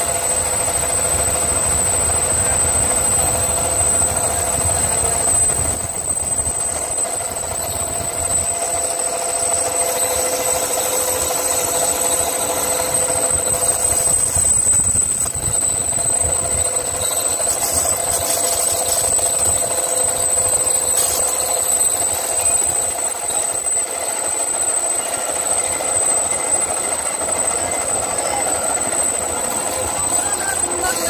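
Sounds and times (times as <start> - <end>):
high machine whine: 0.0 - 31.0
lathe cutting metal: 0.0 - 31.0.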